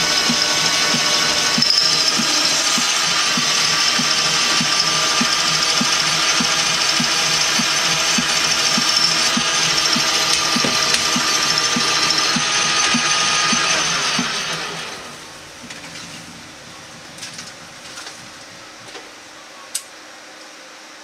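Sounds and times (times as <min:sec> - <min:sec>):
metal lathe cutting metal: 0:00.0 - 0:18.7
regular ticking: 0:00.0 - 0:18.9.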